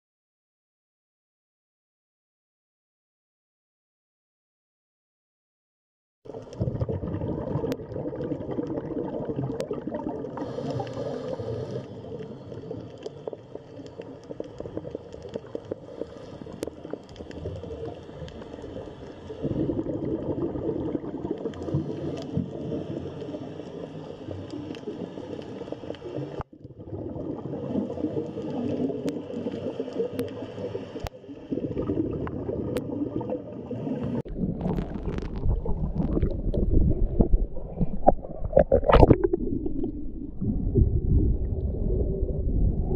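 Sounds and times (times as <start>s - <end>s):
underwater rumble with gurgling: 6.3s - 42.9s.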